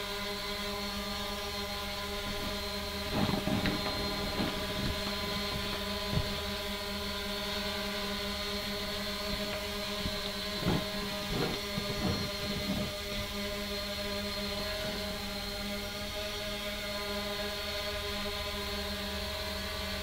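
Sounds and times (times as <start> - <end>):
quadcopter propellers humming: 0.0 - 20.0.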